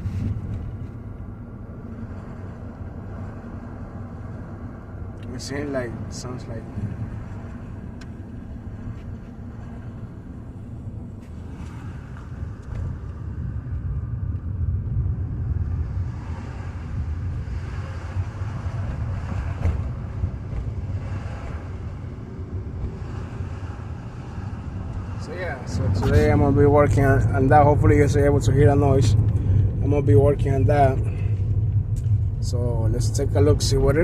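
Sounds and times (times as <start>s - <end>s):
brakes grinding: 0.0s - 34.0s
road and engine rumble: 0.0s - 34.0s.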